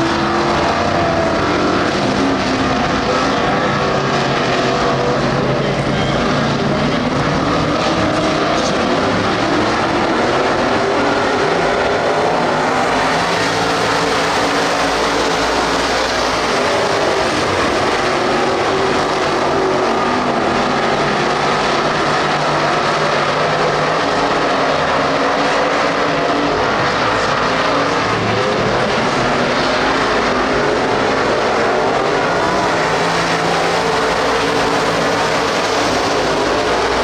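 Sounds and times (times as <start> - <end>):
race car engines droning: 0.0 - 37.0.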